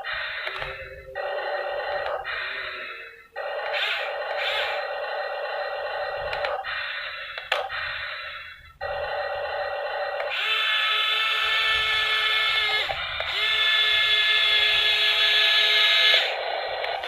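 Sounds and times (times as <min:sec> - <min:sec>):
toy excavator motors whining: 0:00.0 - 0:17.0.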